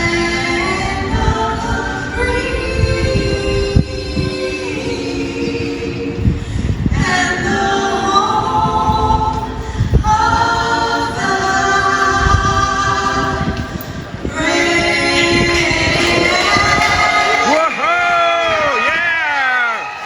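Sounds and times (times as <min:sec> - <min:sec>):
group singing a cappella: 0:00.0 - 0:17.7.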